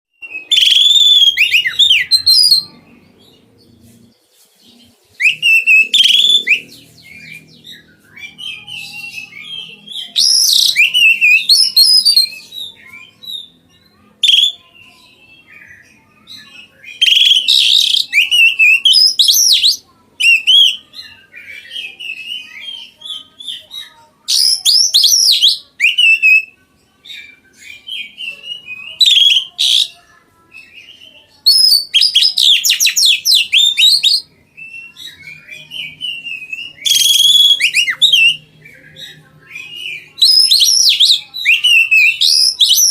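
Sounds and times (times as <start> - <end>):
bird whistling song phrases: 0.2 - 2.8, 5.1 - 13.6, 14.2 - 30.0, 30.6 - 42.9.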